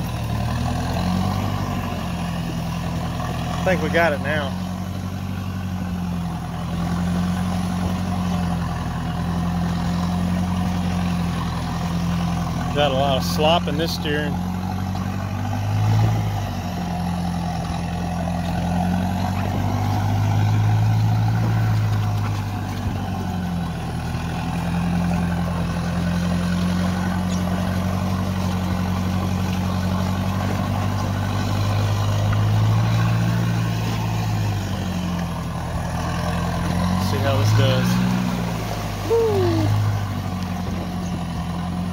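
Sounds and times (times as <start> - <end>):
vehicle engine running under load: 0.0 - 41.9.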